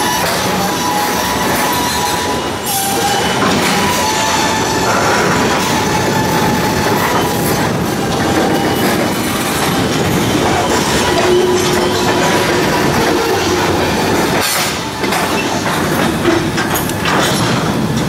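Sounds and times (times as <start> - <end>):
train wheels rumbling and clicking: 0.0 - 18.0.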